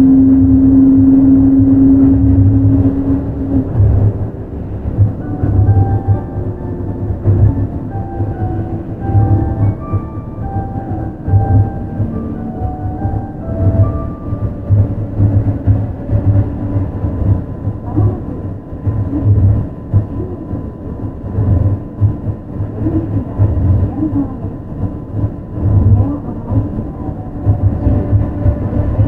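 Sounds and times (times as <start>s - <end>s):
faint steady whine: 0.0s - 29.0s
monorail car running rumble: 0.0s - 29.0s.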